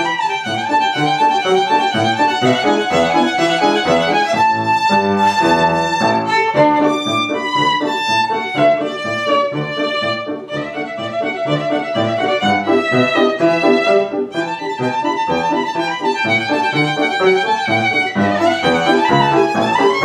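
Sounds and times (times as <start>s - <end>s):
piano accompaniment: 0.0s - 20.0s
solo violin playing: 0.0s - 20.0s.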